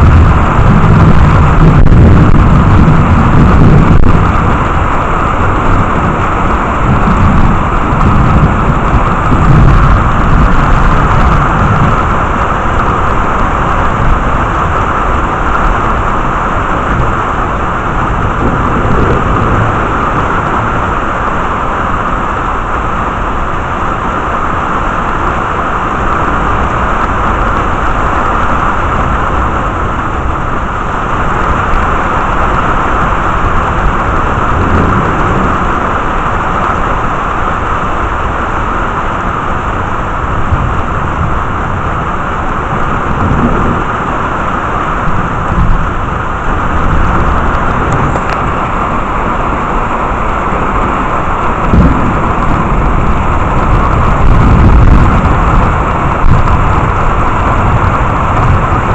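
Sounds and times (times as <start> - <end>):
heavy rain falling: 0.0 - 58.9
thunder rumbling: 0.0 - 58.9.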